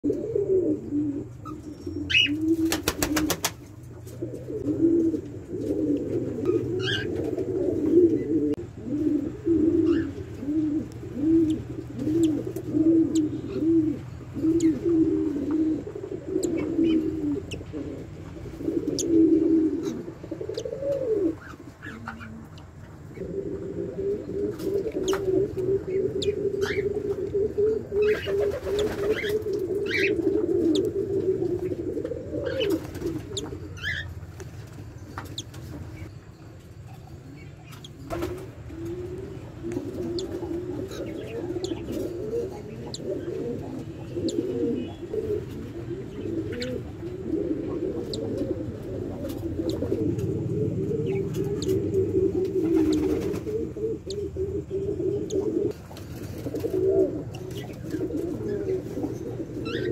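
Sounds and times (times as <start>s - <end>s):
doves cooing: 0.0s - 36.2s, 37.1s - 59.9s.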